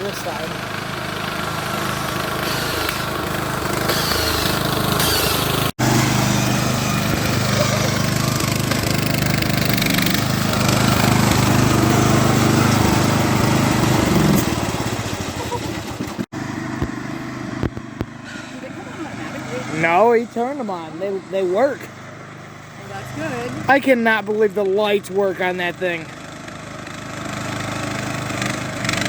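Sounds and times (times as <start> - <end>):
riding lawnmower engine running: 0.0 - 29.0.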